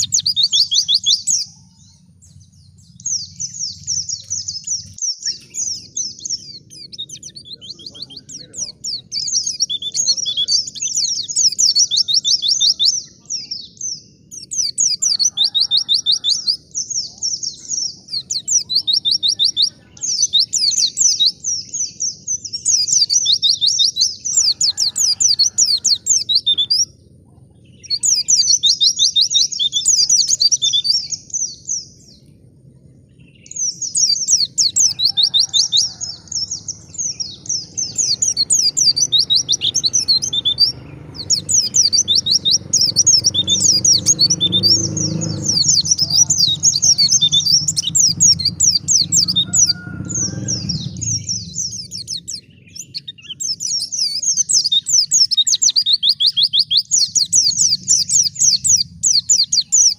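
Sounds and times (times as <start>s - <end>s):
bird twittering: 0.0s - 59.9s.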